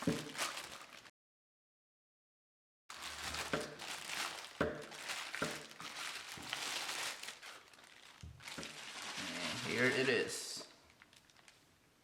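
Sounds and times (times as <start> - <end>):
packaging crinkling and rustling: 0.0 - 1.1, 2.9 - 11.7.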